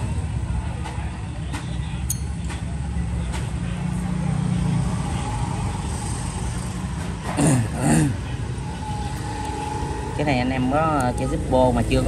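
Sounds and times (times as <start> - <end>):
background traffic rumble: 0.0 - 12.0.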